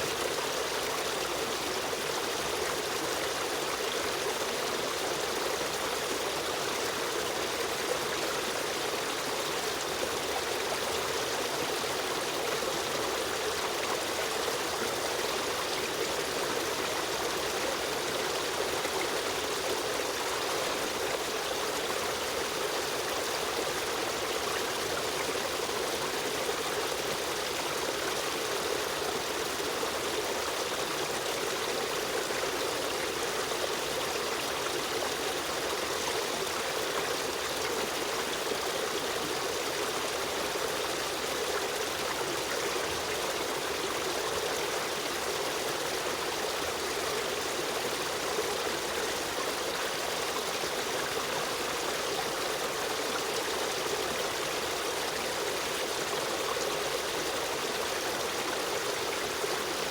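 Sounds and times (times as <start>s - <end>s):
stream water running over rocks: 0.0s - 59.9s.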